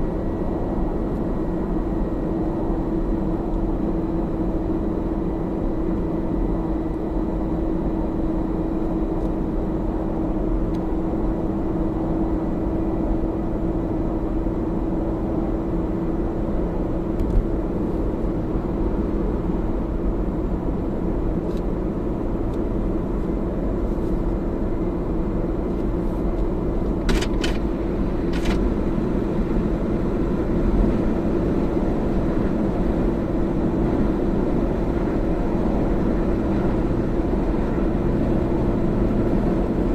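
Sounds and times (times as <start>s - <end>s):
car road noise: 0.0s - 39.9s
constant hum: 0.0s - 39.9s.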